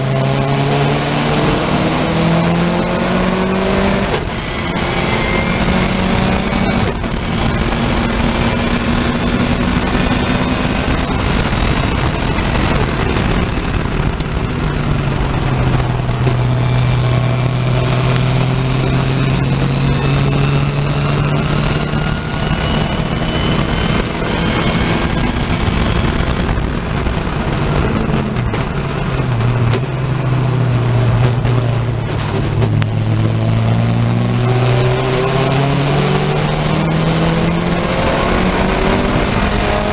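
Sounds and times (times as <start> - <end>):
racing car engine revving: 0.0 - 39.9
wind and road noise: 0.0 - 39.9.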